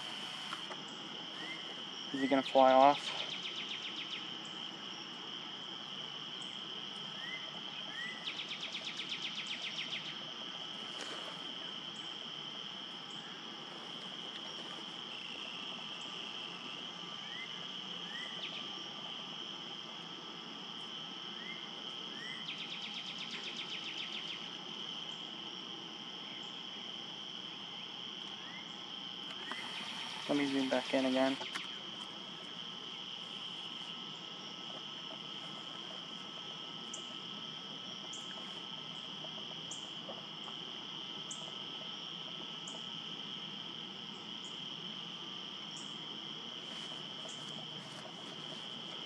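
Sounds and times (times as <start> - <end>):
high-pitched insect trilling: 0.0 - 20.1, 26.2 - 49.0.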